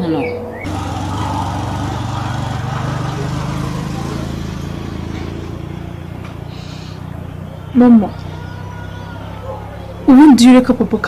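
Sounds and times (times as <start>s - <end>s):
motor engine humming: 0.6s - 11.0s.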